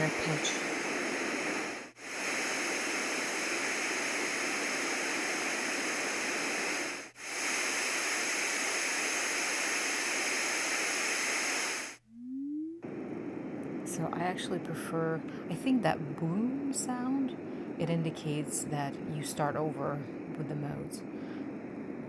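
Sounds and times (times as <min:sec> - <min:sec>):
noise machine white noise hiss: 0:00.0 - 0:12.0, 0:12.8 - 0:22.0.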